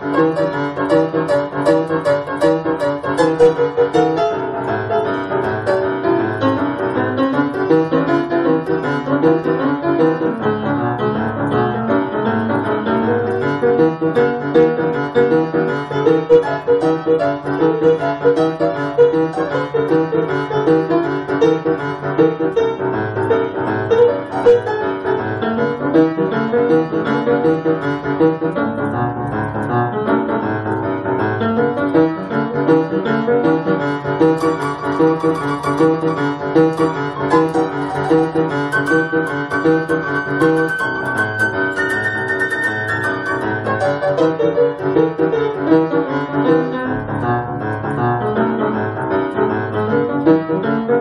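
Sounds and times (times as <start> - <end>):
boogie-woogie piano: 0.0 - 51.0.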